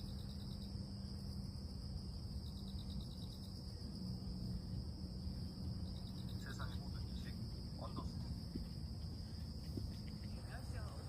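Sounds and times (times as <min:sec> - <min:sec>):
short pulsed insect trill: 0:00.0 - 0:10.3
crickets droning: 0:00.0 - 0:11.0
low steady hum: 0:00.0 - 0:11.0.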